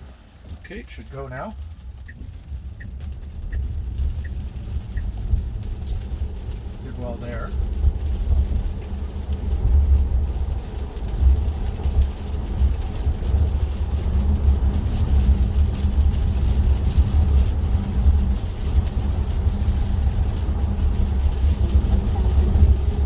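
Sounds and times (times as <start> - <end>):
tyres rumbling on wet road: 0.0 - 23.0
road hiss: 3.5 - 23.0.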